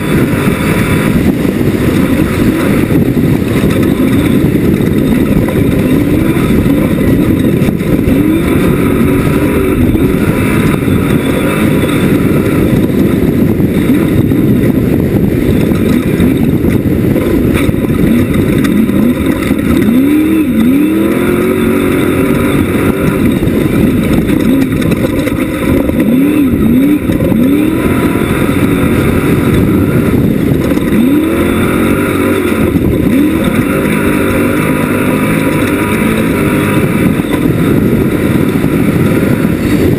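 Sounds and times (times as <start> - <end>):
race buggy engine revving: 0.0 - 39.9.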